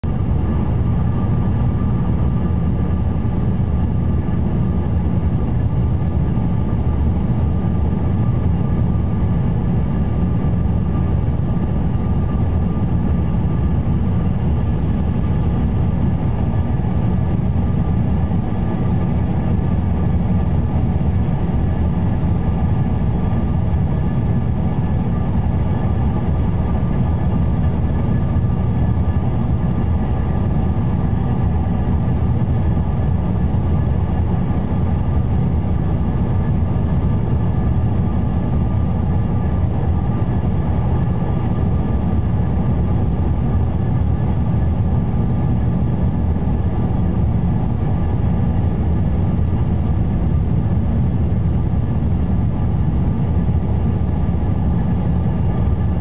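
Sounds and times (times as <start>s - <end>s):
faint steady whine: 0.0s - 56.0s
jet engines and rushing air rumble: 0.0s - 56.0s.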